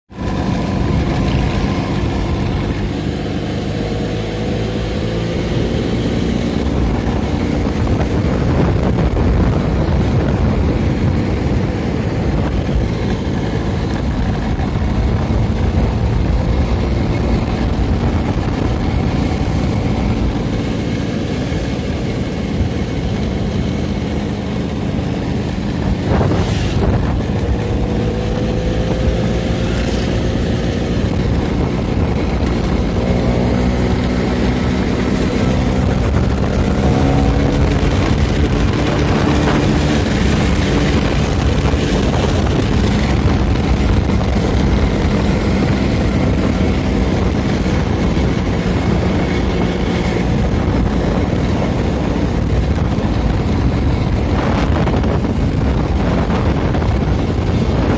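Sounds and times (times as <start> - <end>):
scooter engine running: 0.1 - 57.9.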